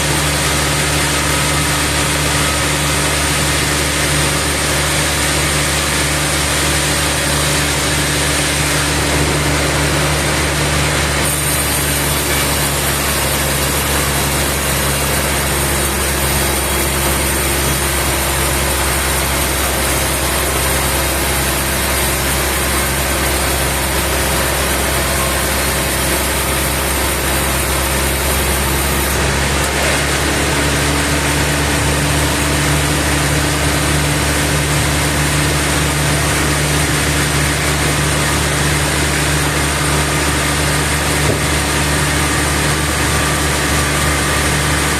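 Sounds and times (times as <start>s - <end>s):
saw motor droning: 0.0s - 44.9s.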